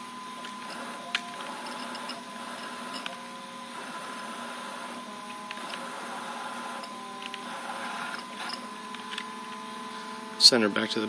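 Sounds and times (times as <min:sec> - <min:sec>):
servo motors humming and whining: 0:00.0 - 0:11.0.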